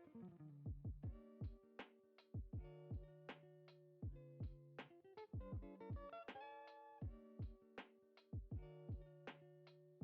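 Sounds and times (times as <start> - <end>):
music with regular beat: 0.7 - 9.8.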